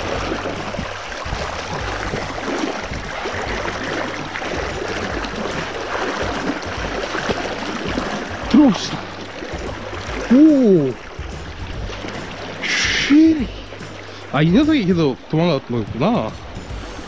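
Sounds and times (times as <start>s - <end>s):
low rumble: 0.0s - 14.1s
stream rushing over stones: 0.0s - 17.0s.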